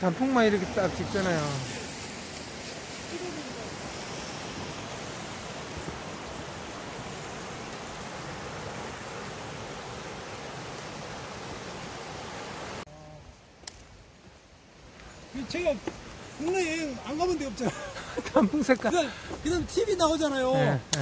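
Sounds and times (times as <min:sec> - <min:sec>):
mountain stream rushing: 0:00.0 - 0:12.9, 0:14.2 - 0:21.0.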